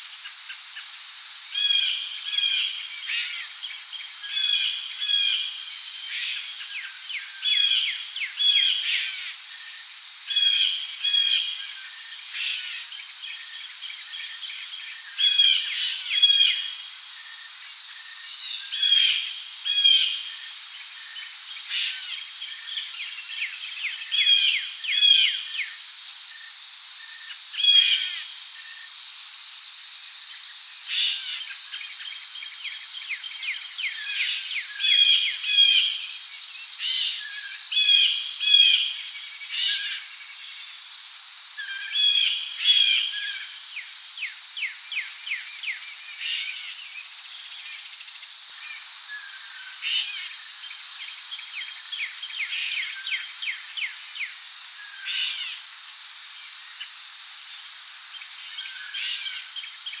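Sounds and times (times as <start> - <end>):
crickets trilling: 0.0 - 60.0
insect drone: 0.0 - 60.0.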